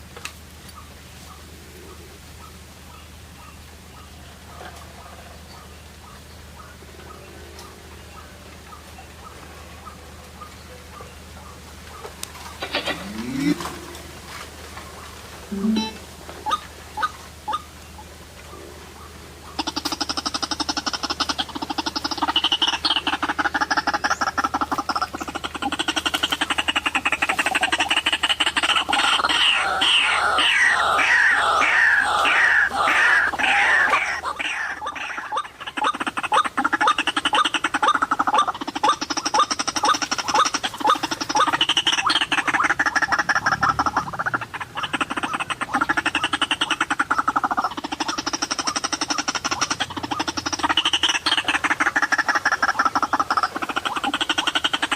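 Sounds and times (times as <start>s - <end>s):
waterhen croaking calls: 0.8s - 54.9s.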